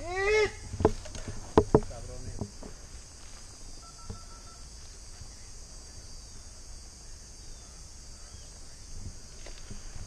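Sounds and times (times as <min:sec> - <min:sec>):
faint steady tone: 0:00.0 - 0:10.0
insects droning: 0:00.0 - 0:10.0.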